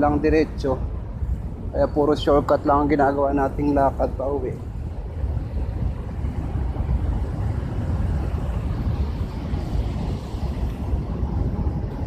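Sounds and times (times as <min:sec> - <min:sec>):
street noise rumble: 0:00.0 - 0:12.0
wind on microphone: 0:00.0 - 0:12.0.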